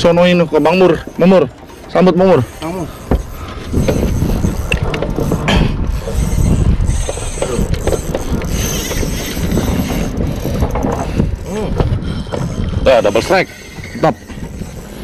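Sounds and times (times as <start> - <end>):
fishing reel ratcheting: 0.2 - 15.0.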